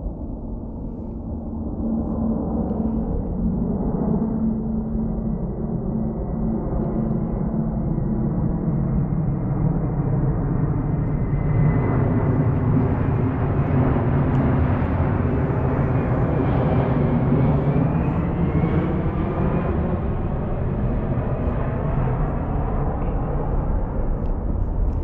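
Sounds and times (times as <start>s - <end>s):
airplane flying over: 0.0s - 25.0s.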